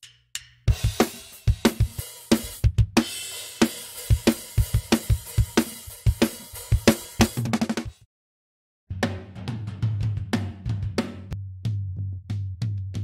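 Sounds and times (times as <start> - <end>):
acoustic drum kit groove: 0.0 - 8.1, 8.9 - 11.4.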